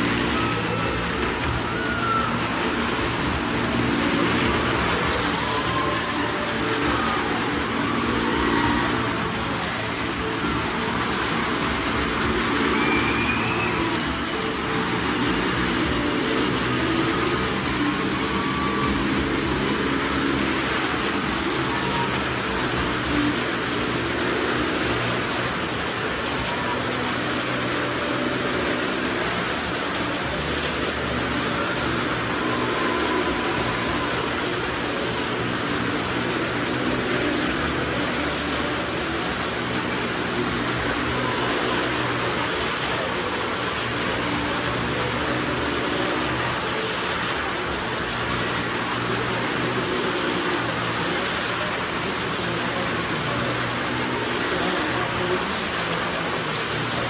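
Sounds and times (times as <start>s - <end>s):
car engines running loudly: 0.0s - 57.0s.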